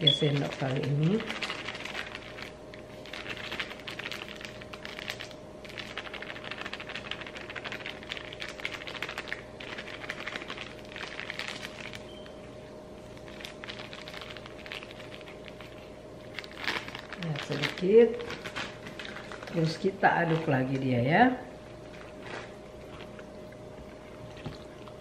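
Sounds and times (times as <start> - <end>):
faint steady hum: 0.0 - 25.0
plastic bag crinkling: 0.0 - 25.0.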